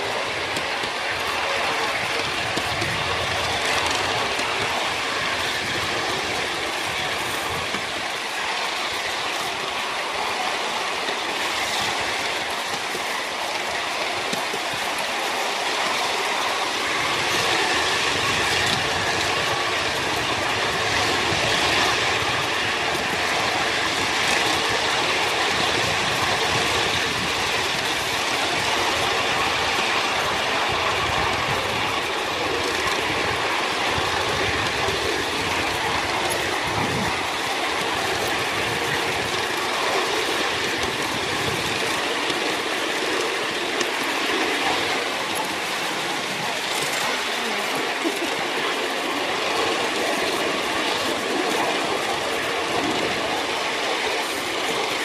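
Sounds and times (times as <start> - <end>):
small wheels running on rails: 0.0 - 55.0.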